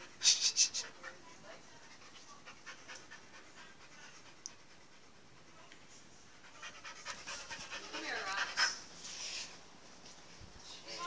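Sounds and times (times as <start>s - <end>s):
dog panting: 0.0s - 9.1s.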